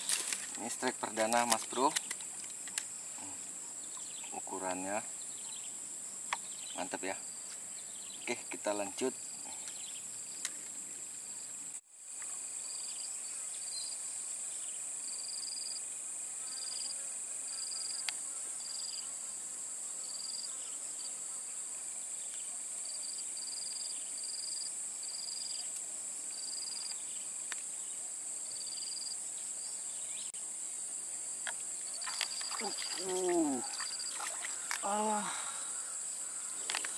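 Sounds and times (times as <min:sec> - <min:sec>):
insects buzzing drone: 0:00.0 - 0:36.9.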